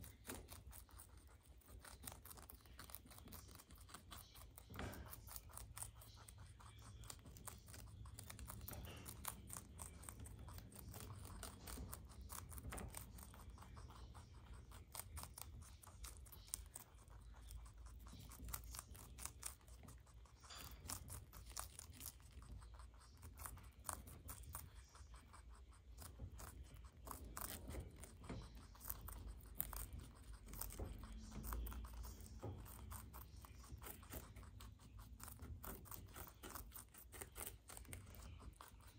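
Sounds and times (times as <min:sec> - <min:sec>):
rabbits chewing leaves: 0:00.0 - 0:38.9.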